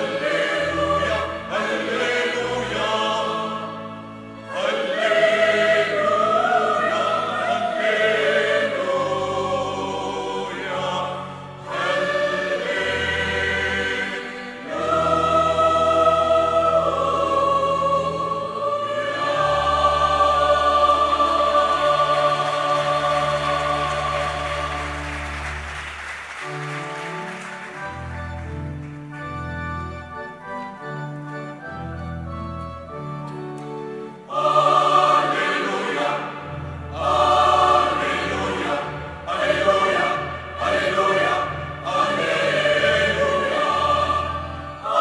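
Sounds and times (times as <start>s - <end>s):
choir singing a hymn: 0.0s - 25.8s, 30.4s - 45.0s
church organ: 0.0s - 45.0s.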